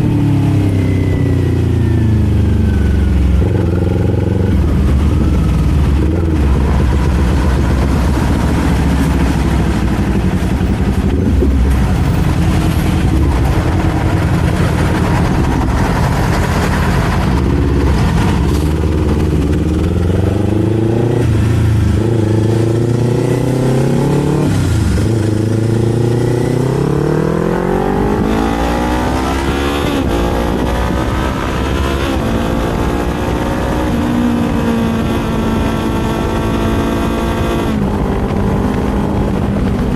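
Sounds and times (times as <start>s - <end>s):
motorcycle engine and exhaust revving: 0.0s - 39.9s.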